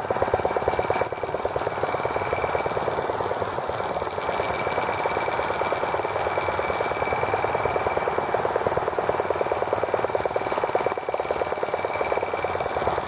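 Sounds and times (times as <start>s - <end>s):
small model engine running: 0.0s - 13.0s.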